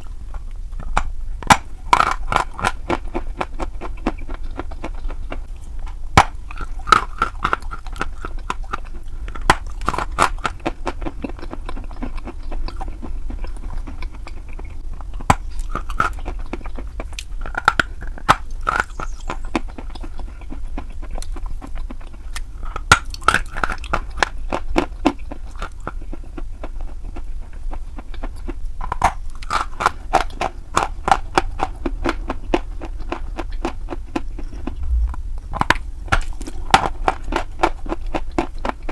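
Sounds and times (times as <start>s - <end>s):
low steady hum: 0.0s - 38.9s
person chewing crunchy chalk: 0.0s - 38.9s.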